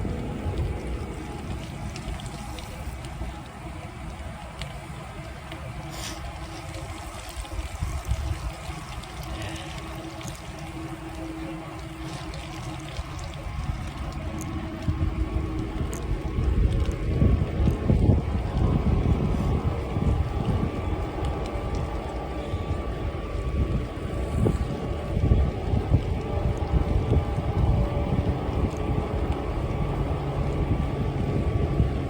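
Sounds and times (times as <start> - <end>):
faint steady hum: 0.0 - 32.0
wind rumbling on microphone: 0.0 - 32.0.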